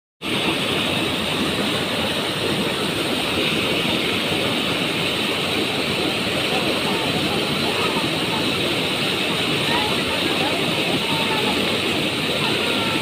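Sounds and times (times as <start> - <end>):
water rushing over waterfall: 0.2 - 13.0.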